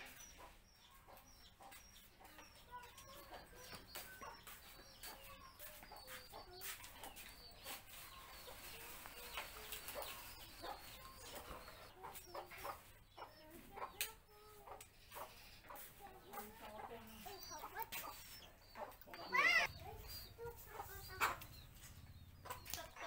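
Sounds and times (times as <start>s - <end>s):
birds clucking and chirping: 0.0s - 23.0s
rabbits nibbling leaves: 2.7s - 23.0s.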